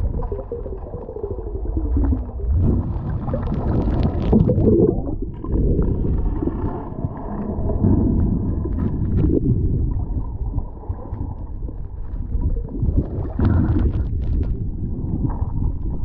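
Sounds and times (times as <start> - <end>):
bubbling and crackling: 0.0 - 16.0
muffled underwater rumble: 0.0 - 16.0.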